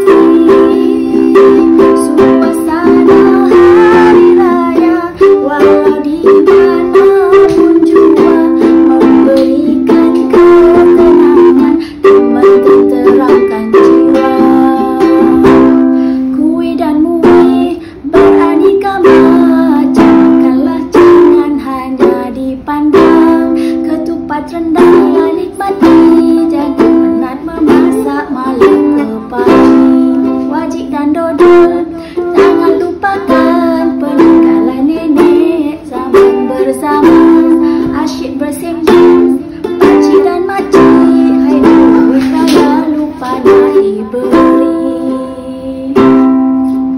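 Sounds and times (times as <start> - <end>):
ukulele strumming: 0.0 - 46.9
woman singing: 0.0 - 46.9.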